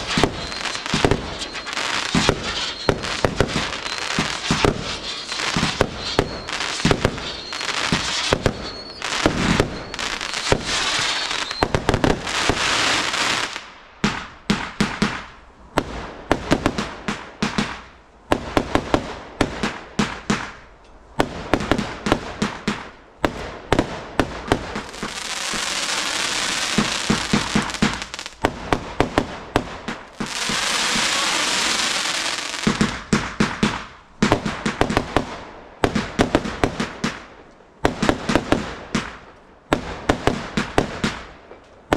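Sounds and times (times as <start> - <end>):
fireworks bangs: 0.0 - 20.6, 21.2 - 41.9
fireworks hissing and crackling: 0.0 - 20.6, 21.2 - 41.9.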